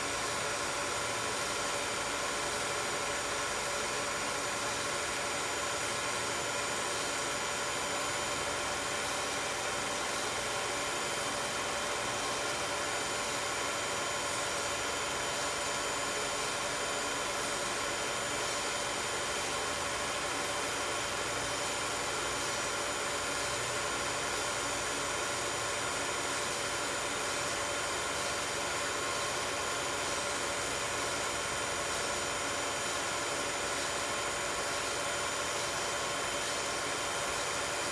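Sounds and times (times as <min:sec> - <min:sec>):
film projector whirring: 0:00.0 - 0:37.9.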